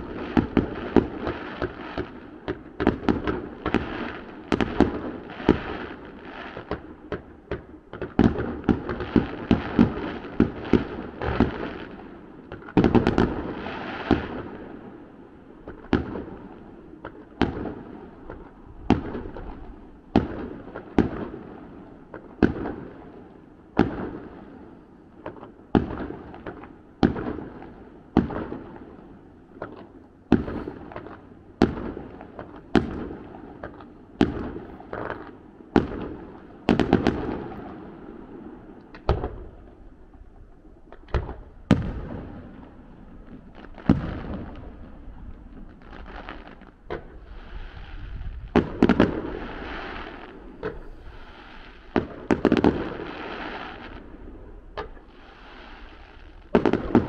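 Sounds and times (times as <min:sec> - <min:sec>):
fireworks bursting with echo: 0:00.0 - 0:57.0.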